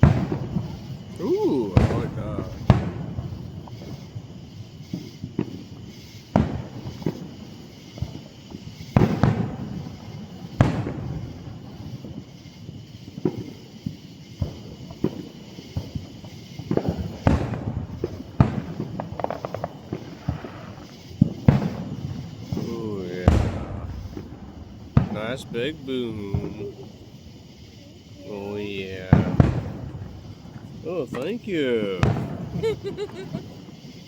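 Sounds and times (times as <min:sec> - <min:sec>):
firework shells booming: 0:00.0 - 0:12.5, 0:13.1 - 0:34.0
rapid firework crackling: 0:00.0 - 0:34.0
small firework pops: 0:00.0 - 0:34.0.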